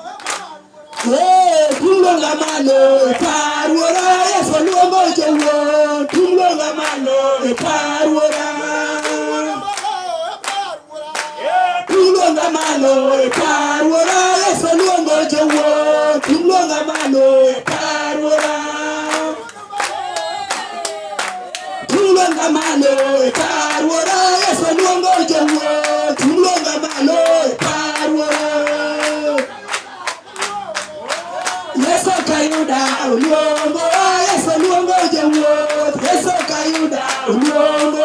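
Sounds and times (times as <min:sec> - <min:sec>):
hands clapping a steady beat: 0:00.0 - 0:38.0
women singing unaccompanied: 0:00.0 - 0:38.0.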